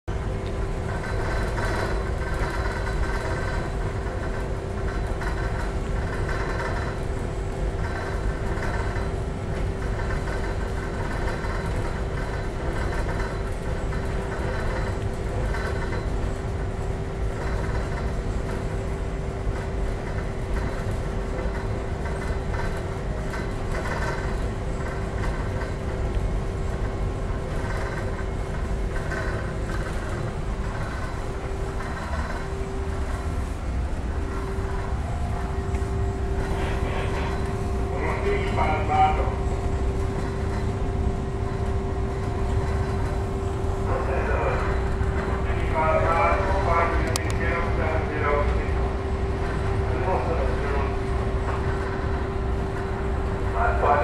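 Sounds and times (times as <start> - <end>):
ship machinery rumbling: 0.0 - 54.0.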